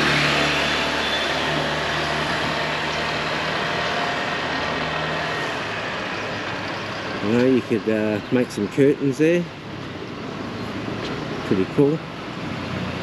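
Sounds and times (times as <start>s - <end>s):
street traffic noise: 0.0s - 13.0s
vehicle engine droning: 0.0s - 13.0s.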